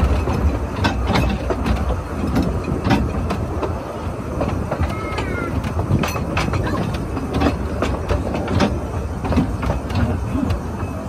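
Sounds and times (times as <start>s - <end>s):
wheels clicking over rail joints: 0.0s - 11.0s.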